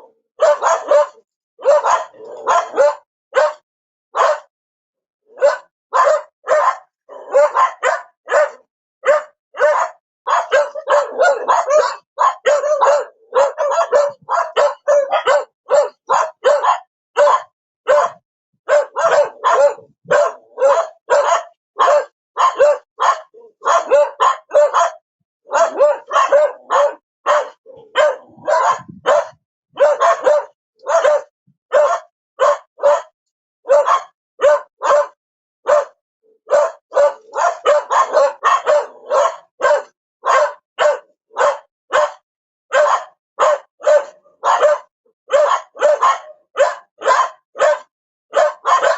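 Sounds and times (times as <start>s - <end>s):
dog barking: 0.0s - 4.5s, 5.3s - 48.9s.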